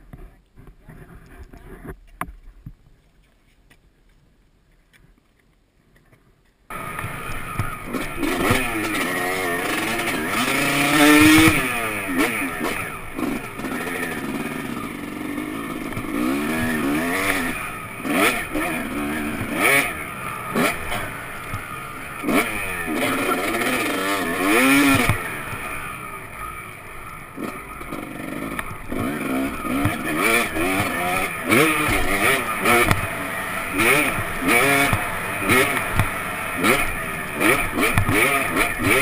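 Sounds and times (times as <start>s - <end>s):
dirt bike engine revving: 6.7s - 39.0s.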